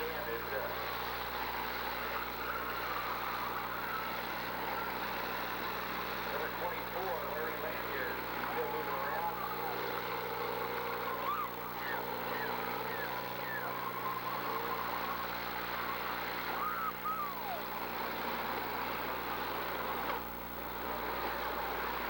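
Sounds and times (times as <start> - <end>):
car engines running: 0.0 - 22.0
crowd calling out: 0.8 - 19.2.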